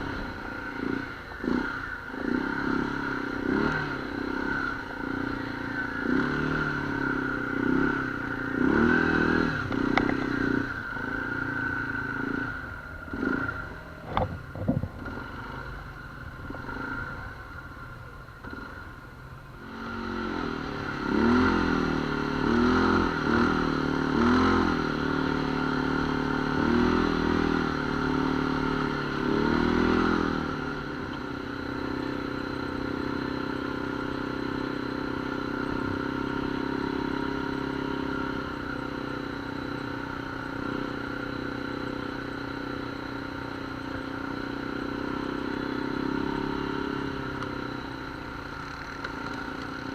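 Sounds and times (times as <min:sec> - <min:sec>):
atv engine revving: 0:00.0 - 0:17.8, 0:18.4 - 0:49.9.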